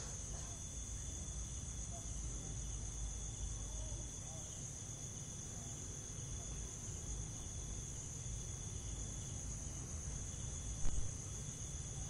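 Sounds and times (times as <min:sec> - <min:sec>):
low pulsing insect call: 0:00.0 - 0:12.0.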